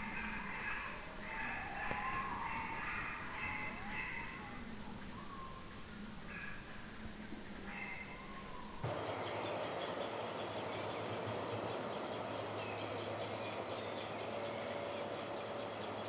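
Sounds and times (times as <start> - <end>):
steady low hum: 3.0 - 16.0.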